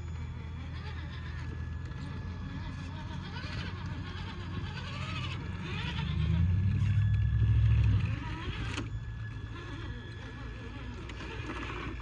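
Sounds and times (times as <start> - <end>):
toy truck electric motor hum: 0.0 - 12.0.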